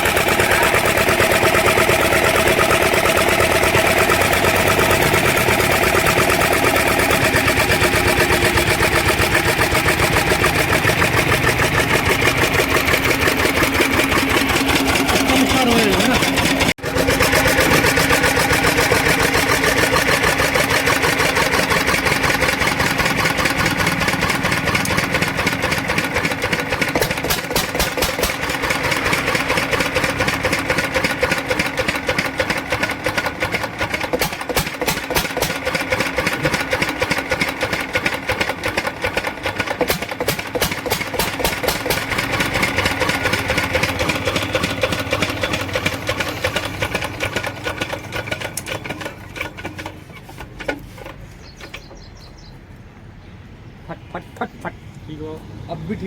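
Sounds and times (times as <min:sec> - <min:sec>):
stationary engine running: 0:00.0 - 0:51.1.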